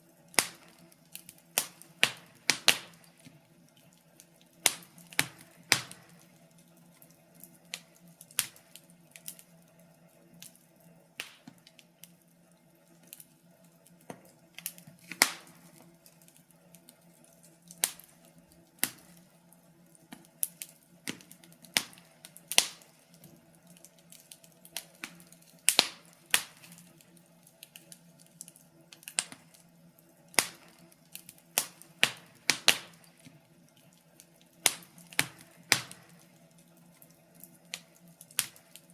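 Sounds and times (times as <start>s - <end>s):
wood fire snaps and pops: 0.0s - 38.9s.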